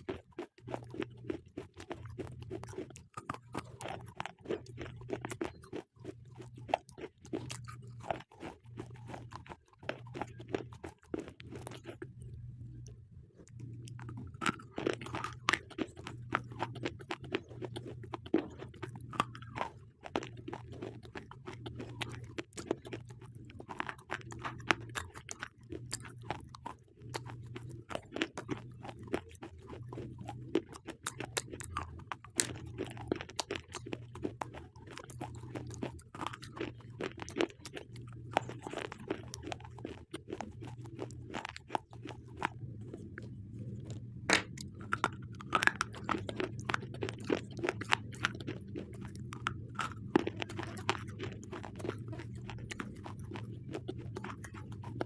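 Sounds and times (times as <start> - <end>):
brittle crunching while chewing: 0.0 - 55.0.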